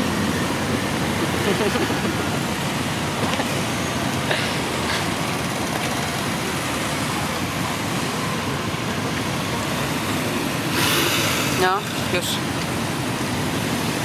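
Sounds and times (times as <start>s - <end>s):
motorcycle engines passing: 0.0s - 14.0s.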